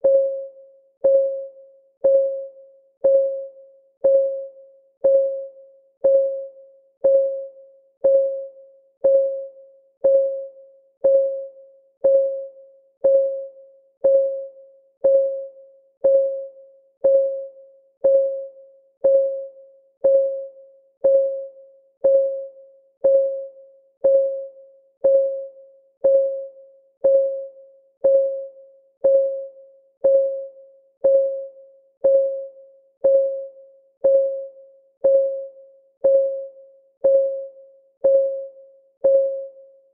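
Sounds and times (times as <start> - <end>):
timer ticking: 1.0 - 39.5.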